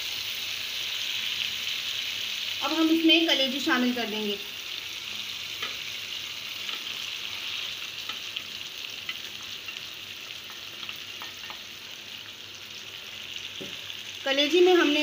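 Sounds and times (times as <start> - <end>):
hot oil sizzling in a frying pan: 0.0 - 15.0.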